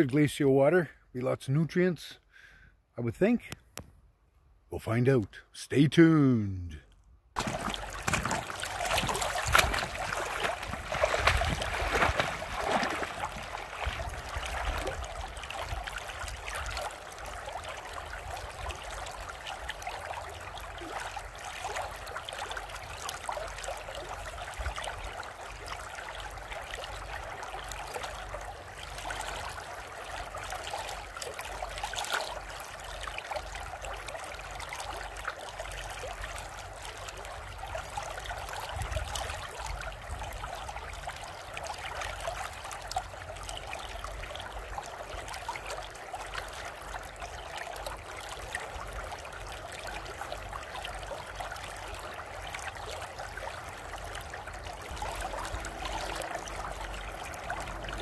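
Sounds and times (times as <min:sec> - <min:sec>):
river water lapping over stones: 0:07.4 - 0:58.0.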